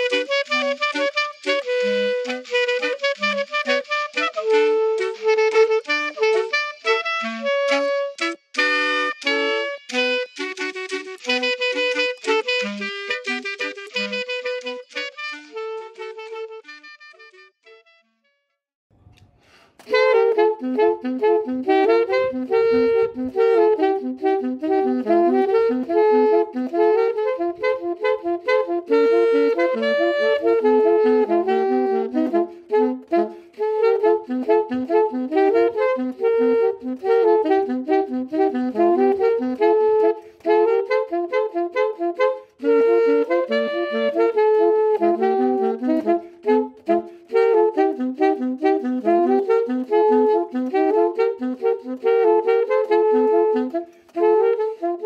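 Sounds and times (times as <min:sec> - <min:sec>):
alto saxophone lively melody: 0:00.0 - 0:18.5, 0:19.8 - 0:55.0.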